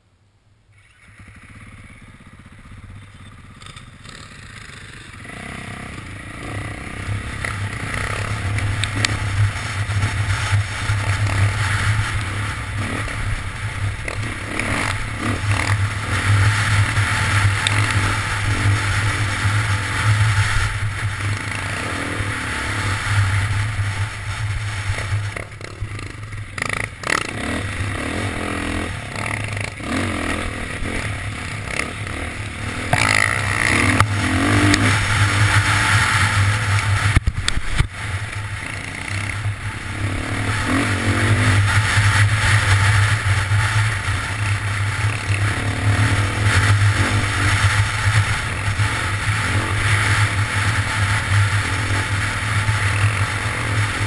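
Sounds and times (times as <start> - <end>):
dirt bike engine revving: 1.0 - 54.0.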